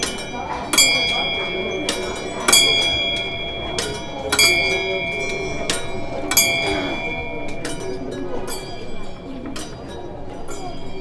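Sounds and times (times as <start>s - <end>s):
small bell ringing: 0.0s - 11.0s.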